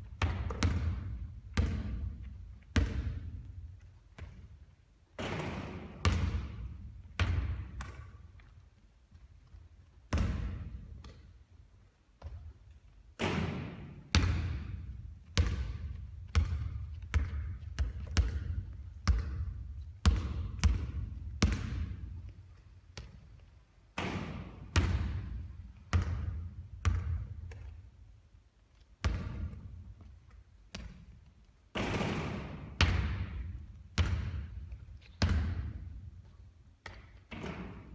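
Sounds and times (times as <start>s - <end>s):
basketballs bouncing on court: 0.0s - 8.6s, 10.1s - 11.4s, 13.2s - 27.8s, 29.0s - 37.9s.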